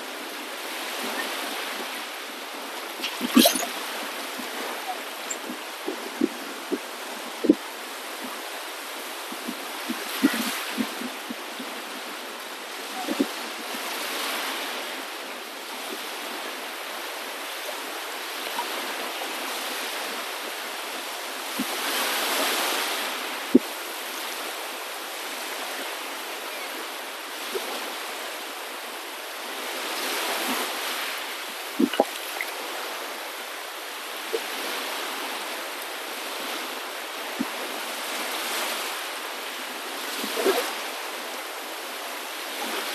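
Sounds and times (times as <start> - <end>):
water washing in waves: 0.0 - 42.9.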